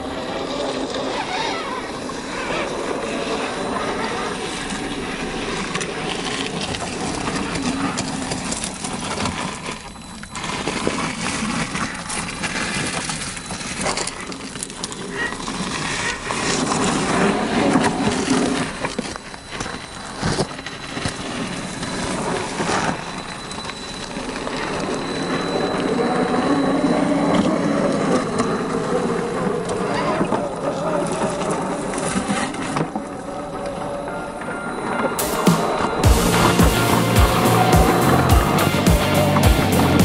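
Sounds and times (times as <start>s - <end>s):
electric motor and gears whining: 0.0s - 40.0s.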